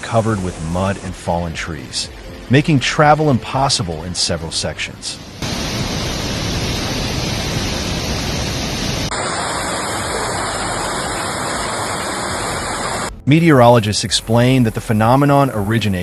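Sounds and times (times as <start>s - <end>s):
water rushing: 0.0s - 16.0s.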